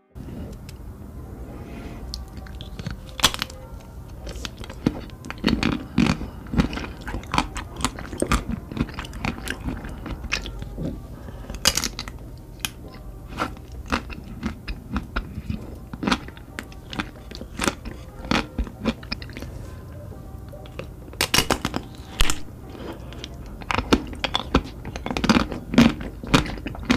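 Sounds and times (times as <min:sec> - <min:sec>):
crunchy chewing of ice cream bars: 0:02.0 - 0:26.9.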